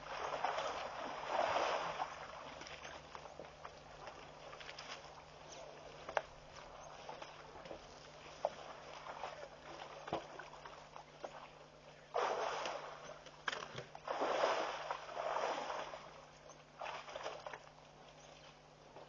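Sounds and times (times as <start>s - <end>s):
elephants splashing water: 0.0s - 13.2s, 13.8s - 17.8s.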